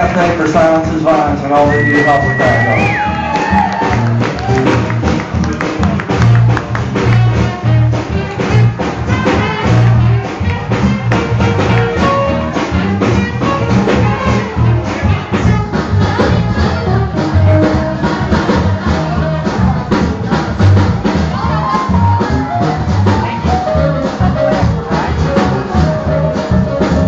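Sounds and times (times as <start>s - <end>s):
bass line: 0.0s - 27.0s
drums keeping a beat: 0.0s - 27.0s
live jazz band: 0.0s - 27.0s
brass horns: 1.8s - 27.0s.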